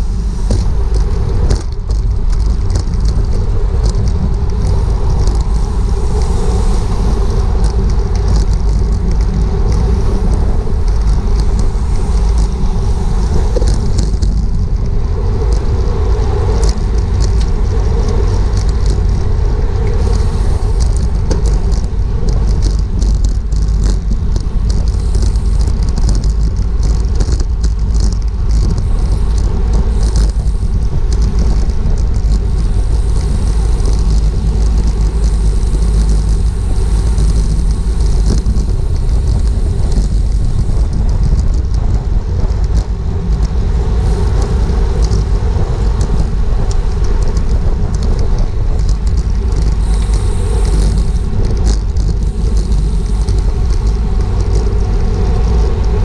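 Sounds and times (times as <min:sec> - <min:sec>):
bicycle rattling and ticking: 0:00.0 - 0:56.0
wind buffeting microphone: 0:00.0 - 0:56.0.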